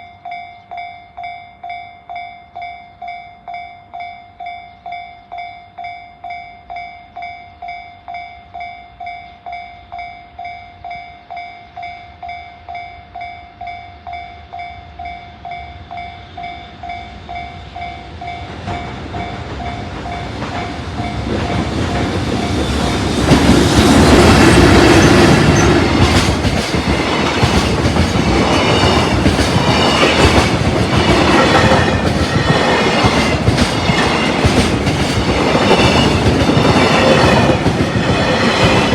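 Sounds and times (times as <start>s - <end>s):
freight train passing: 0.0s - 38.9s.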